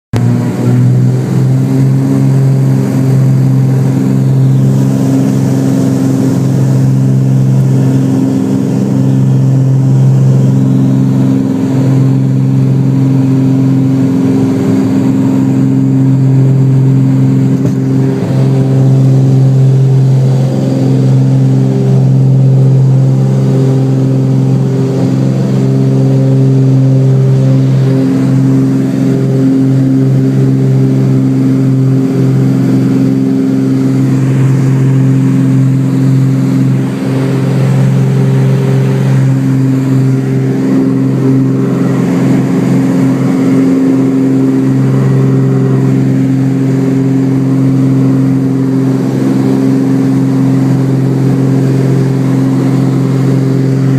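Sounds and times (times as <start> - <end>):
airplane engines and propellers droning: 0.1 - 53.9.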